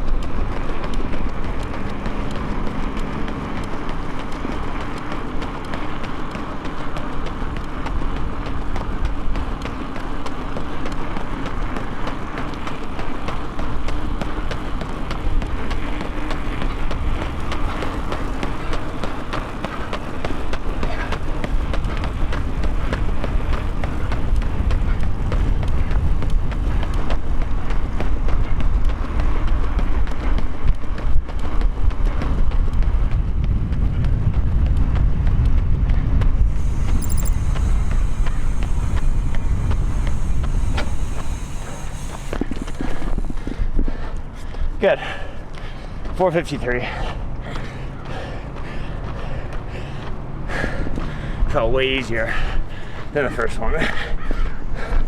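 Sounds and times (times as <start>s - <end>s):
running footsteps: 0.0s - 55.0s
wind rumbling on microphone: 0.0s - 55.0s.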